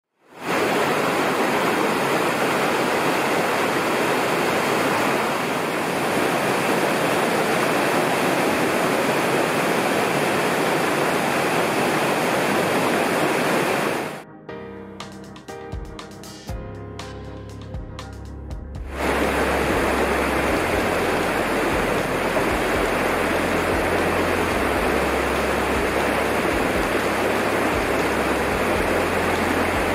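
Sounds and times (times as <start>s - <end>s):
waterfall rushing: 0.3s - 14.2s, 18.9s - 29.9s.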